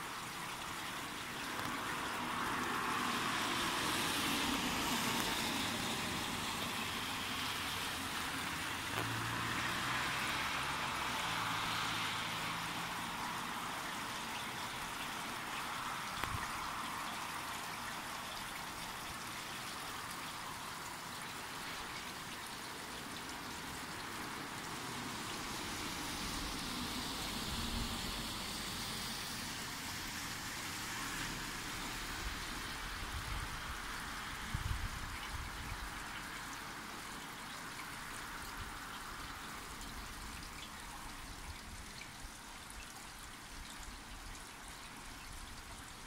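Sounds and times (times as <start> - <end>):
rain on roofs and wet road: 0.0 - 46.0.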